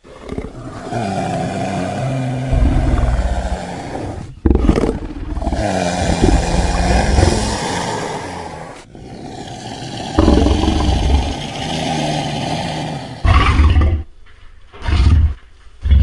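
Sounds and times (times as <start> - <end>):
creature growl with wavering pitch: 0.0 - 13.7.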